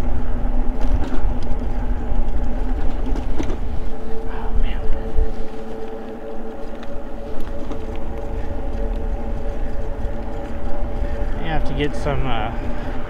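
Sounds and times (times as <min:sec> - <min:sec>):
electric bike motor whining: 0:00.0 - 0:13.0
wind rumbling on microphone: 0:00.0 - 0:13.0.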